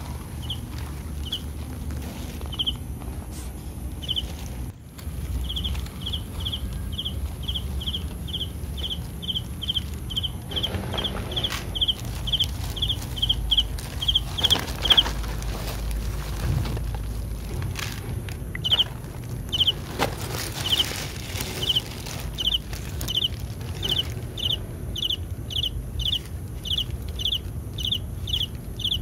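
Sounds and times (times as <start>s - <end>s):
insect chirping: 0.0s - 1.6s, 2.4s - 2.8s, 4.0s - 4.4s, 5.1s - 16.4s, 18.5s - 29.0s
rustling: 0.0s - 27.6s
low rumble: 0.0s - 29.0s.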